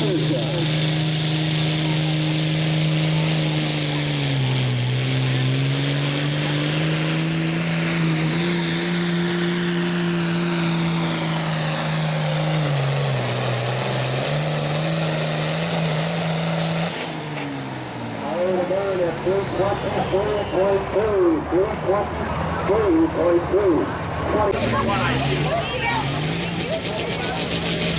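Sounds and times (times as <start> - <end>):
diesel tractor engine under load: 0.0 - 27.9.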